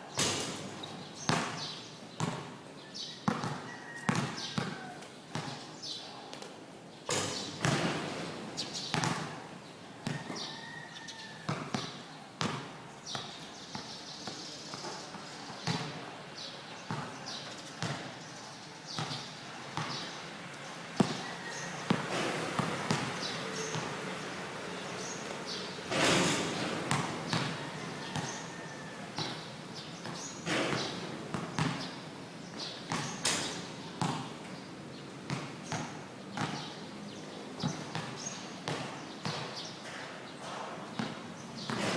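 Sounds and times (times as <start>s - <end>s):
basketball bouncing on a court: 0.2s - 2.6s, 3.2s - 5.6s, 7.1s - 10.8s, 11.4s - 16.0s, 16.9s - 18.2s, 18.9s - 20.2s, 21.0s - 24.0s, 25.2s - 34.5s, 35.2s - 36.8s, 37.6s - 41.9s.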